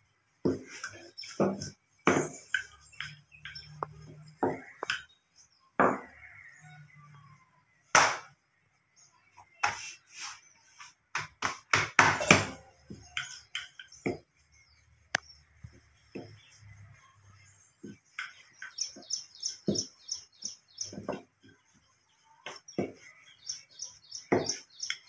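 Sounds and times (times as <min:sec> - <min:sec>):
rolling pin rolling dough: 0:00.4 - 0:05.1, 0:09.5 - 0:25.0.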